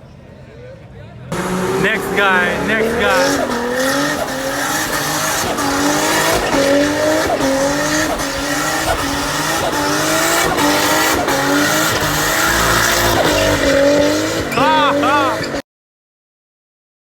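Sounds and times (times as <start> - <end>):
car engine revving hard: 1.3 - 15.6
tyres squealing: 1.3 - 15.6.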